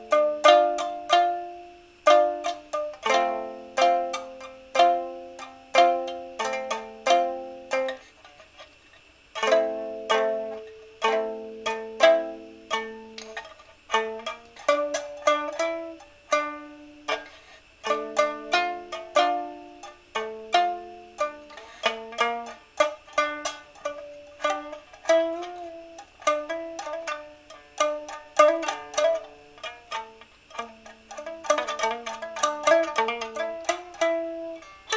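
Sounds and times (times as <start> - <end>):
plucked string instrument: 0.0 - 34.9.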